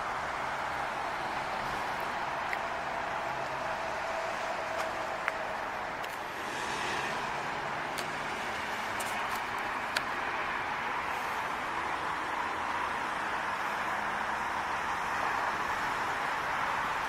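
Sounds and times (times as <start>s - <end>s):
road traffic hiss: 0.0s - 17.0s.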